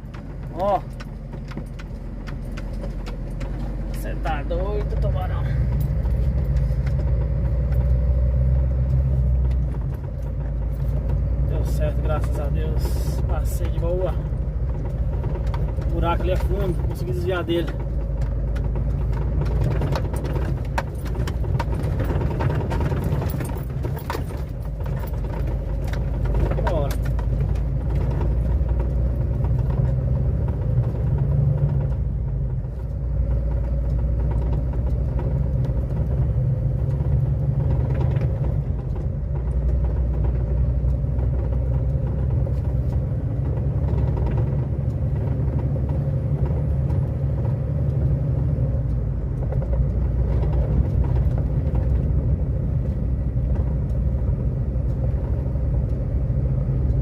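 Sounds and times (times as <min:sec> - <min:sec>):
vehicle driving on dirt road: 0:00.0 - 0:57.0.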